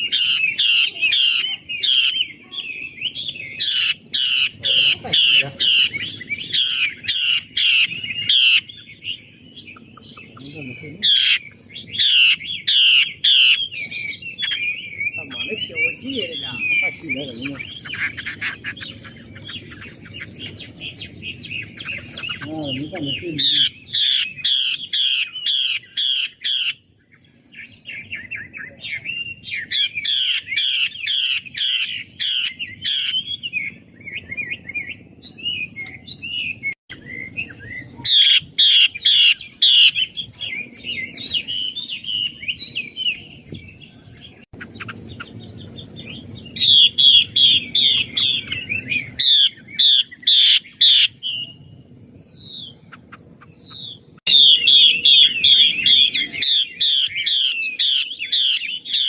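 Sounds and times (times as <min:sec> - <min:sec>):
soft bird twittering: 0:00.0 - 0:59.0.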